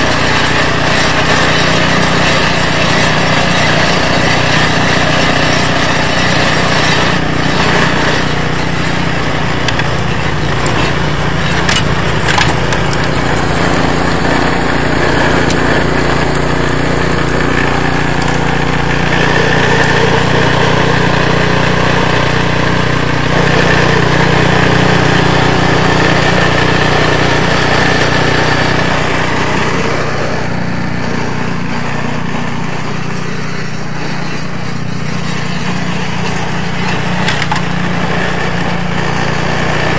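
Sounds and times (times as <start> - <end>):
auger churning and throwing snow: 0.0 - 39.9
snowblower engine running: 0.0 - 39.9.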